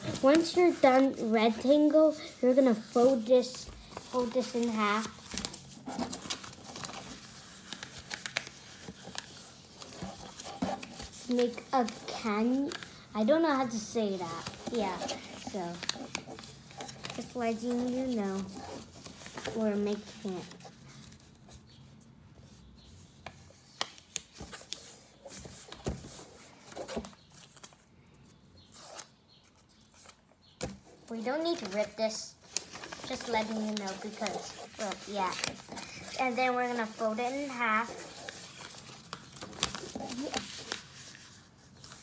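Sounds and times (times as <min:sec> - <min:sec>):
sharp paper crackles: 0:00.0 - 0:21.7, 0:28.6 - 0:42.0
paper rustling and creasing: 0:00.0 - 0:42.0.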